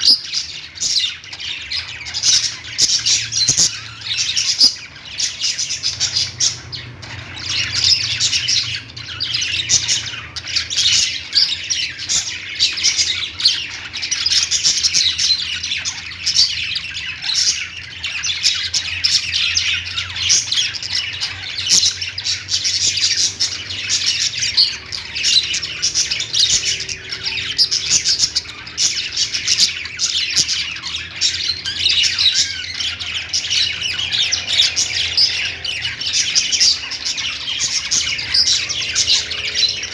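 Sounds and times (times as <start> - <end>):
parakeets chirping and squawking: 0.0 - 39.9.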